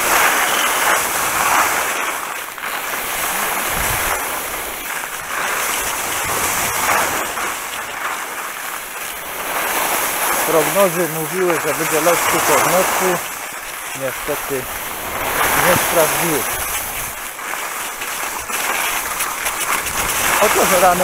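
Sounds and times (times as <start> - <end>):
rain and wind rush on microphone: 0.0 - 21.0
skis hissing over wet snow: 0.0 - 21.0.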